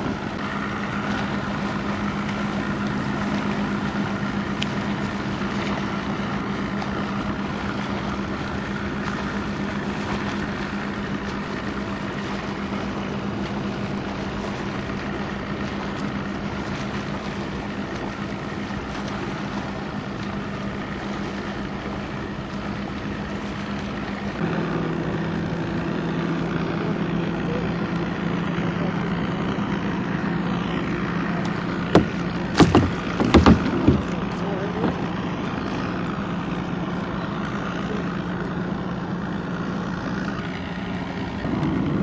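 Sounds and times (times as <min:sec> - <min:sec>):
motorboat engine running: 0:00.0 - 0:42.0.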